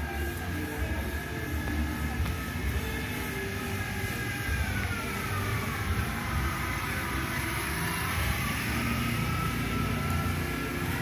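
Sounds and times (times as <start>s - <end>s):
engine running low rumble: 0.0s - 11.0s
engine whine: 0.0s - 11.0s
street traffic: 0.0s - 11.0s.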